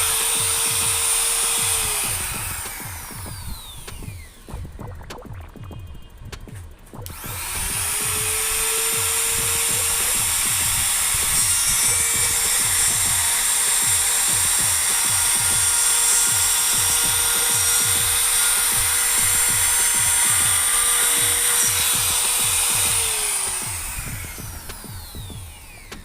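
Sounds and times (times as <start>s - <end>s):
music with steady beat: 0.0s - 26.0s
router whining and winding down: 0.0s - 26.0s.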